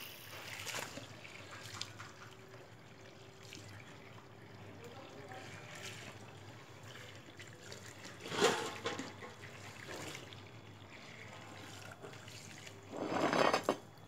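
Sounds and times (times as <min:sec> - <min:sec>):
water trickling from a hose: 0:00.0 - 0:13.2.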